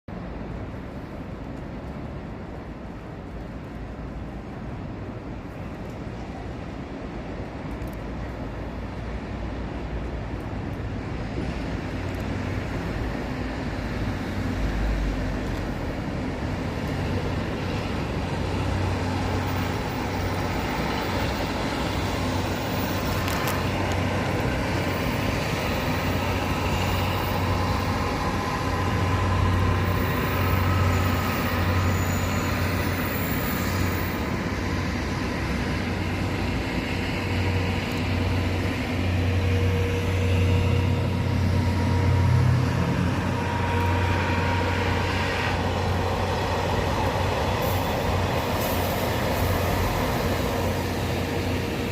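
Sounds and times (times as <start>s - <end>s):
train rolling by: 0.1s - 51.9s.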